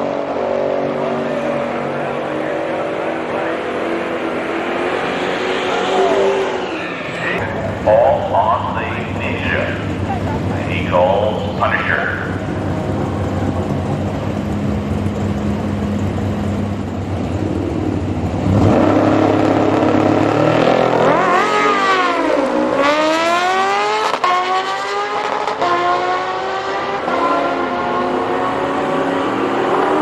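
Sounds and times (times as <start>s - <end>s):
drag racing engine revving: 0.0s - 30.0s.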